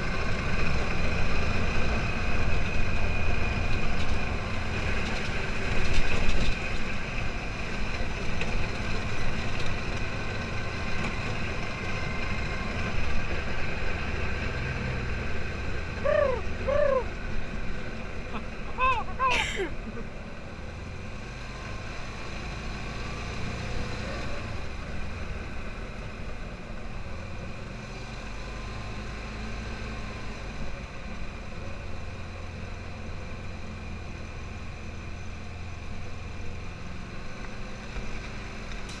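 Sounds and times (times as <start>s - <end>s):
buggy engine rumbling: 0.0s - 39.0s.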